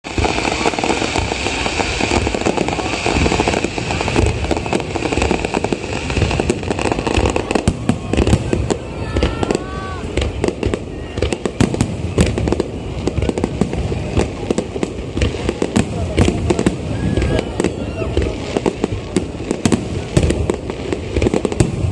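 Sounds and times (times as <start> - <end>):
fireworks bangs and crackling: 0.0 - 21.9
hissing crackle: 0.0 - 21.9.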